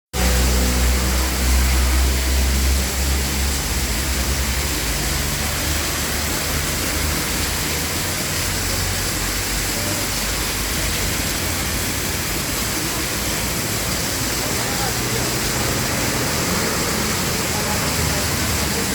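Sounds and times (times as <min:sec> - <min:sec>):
heavy rain pouring: 0:00.2 - 0:18.9.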